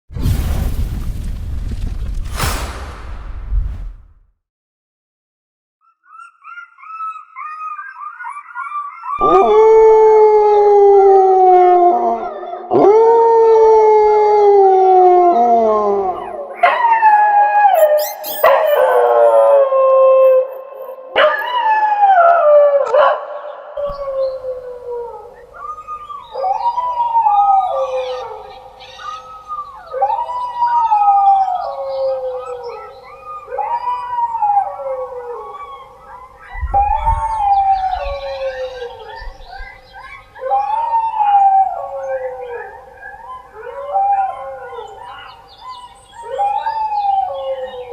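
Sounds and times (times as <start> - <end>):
dogs howling: 7.6 - 23.4, 24.0 - 39.7, 40.4 - 47.9.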